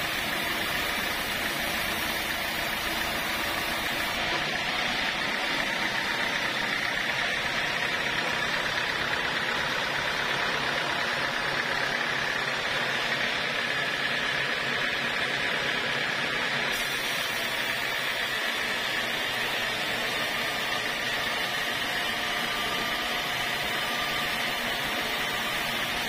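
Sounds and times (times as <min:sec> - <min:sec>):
band saw cutting wood: 0:00.0 - 0:14.6, 0:16.4 - 0:26.0.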